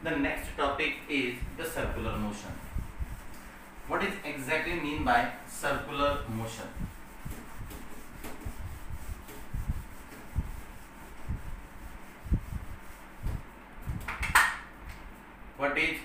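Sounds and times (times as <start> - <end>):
eraser rubbing on whiteboard: 0.9 - 14.0.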